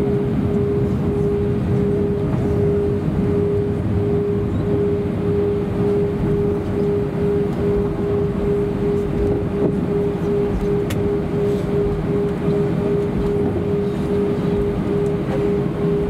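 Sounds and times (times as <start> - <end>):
aircraft engines idling hum: 0.0 - 16.0.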